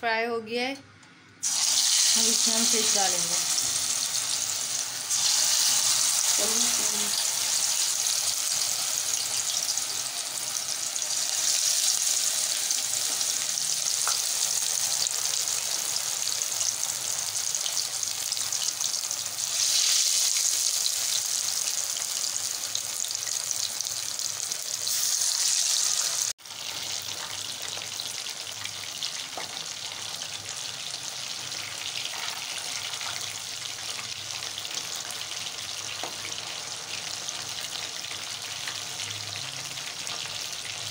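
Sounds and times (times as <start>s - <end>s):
fish deep-frying in oil: 1.4s - 40.9s.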